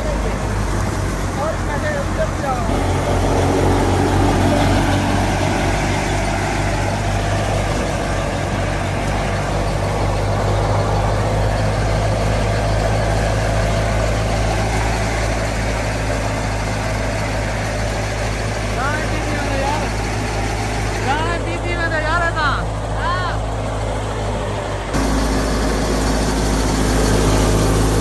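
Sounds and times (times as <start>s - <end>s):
thresher mechanical rush: 0.0s - 28.0s
tractor diesel engine drone: 0.0s - 28.0s.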